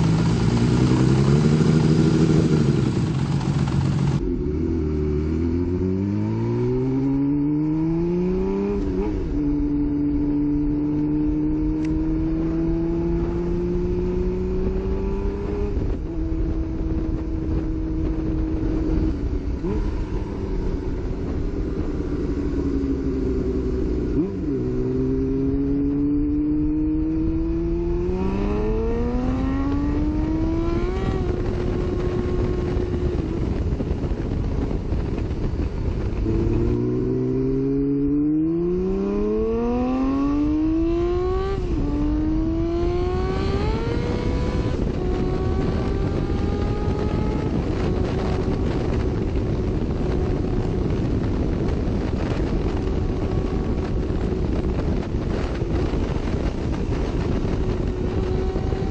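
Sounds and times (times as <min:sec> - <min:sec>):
continuous rushing noise: 0:00.0 - 0:58.9
motorcycle engine accelerating: 0:00.0 - 0:58.9.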